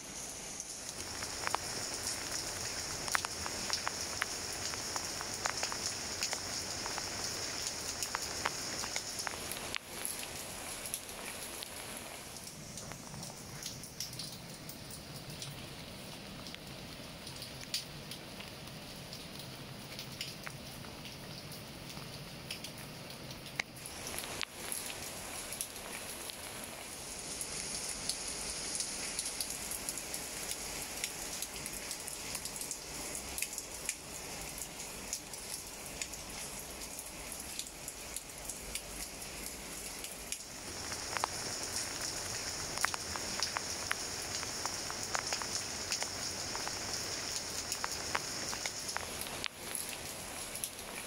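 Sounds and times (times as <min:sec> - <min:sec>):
rain falling on leaves: 0:00.0 - 0:51.0.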